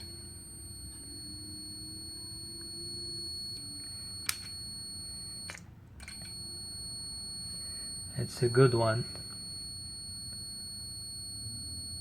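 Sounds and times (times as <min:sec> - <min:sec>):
multimeter high-pitched beep: 0:00.0 - 0:12.0.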